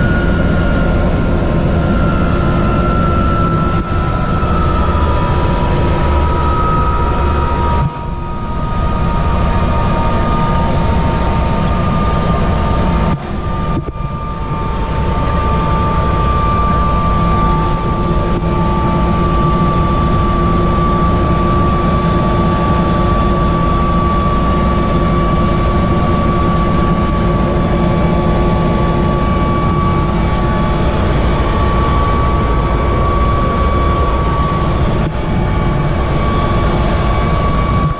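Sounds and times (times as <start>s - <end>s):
helicopter rotor drone: 0.0s - 37.9s
helicopter turbine whine: 0.0s - 37.9s.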